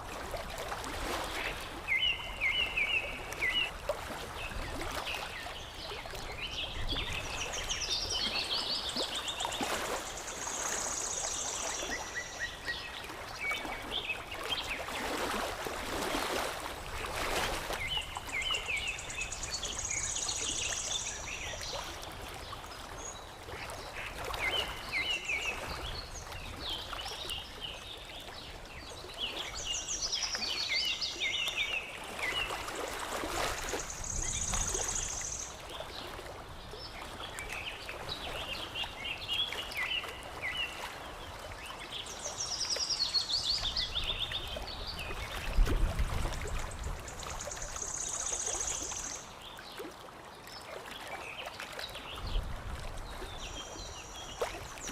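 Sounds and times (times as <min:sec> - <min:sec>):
water lapping and trickling: 0:00.0 - 0:54.9
small songbirds chirping: 0:04.4 - 0:14.9, 0:17.7 - 0:45.7, 0:46.3 - 0:49.9, 0:50.6 - 0:54.9.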